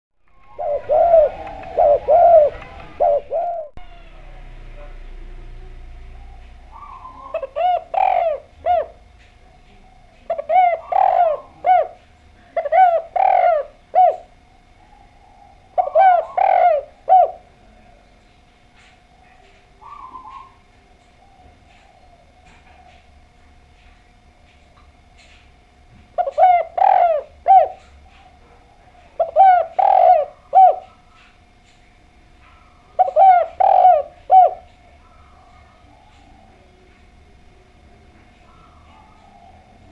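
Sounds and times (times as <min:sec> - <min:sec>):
dove cooing: 0:00.2 - 0:39.9
faint steady hum: 0:00.2 - 0:39.9.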